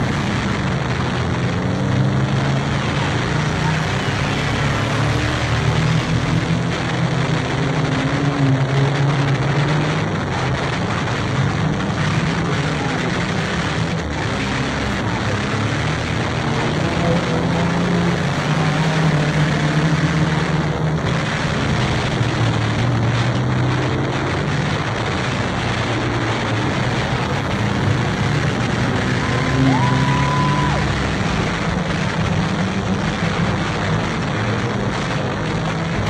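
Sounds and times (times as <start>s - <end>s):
race car engine running: 0.0s - 36.0s
wind and road noise: 0.0s - 36.0s.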